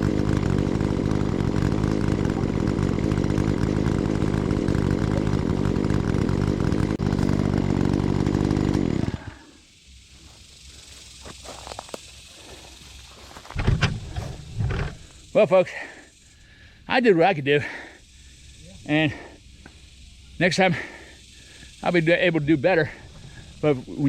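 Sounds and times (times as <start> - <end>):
chainsaw running: 0.0 - 16.3, 17.6 - 24.0.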